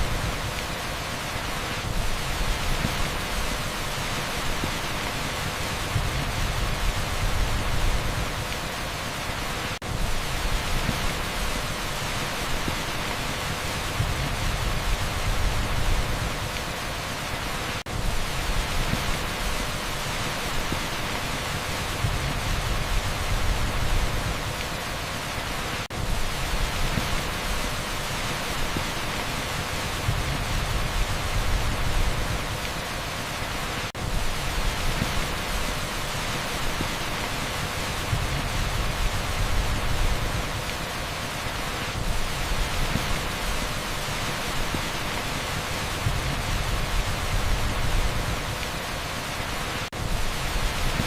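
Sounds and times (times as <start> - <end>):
torrential rain on asphalt: 0.0 - 51.0.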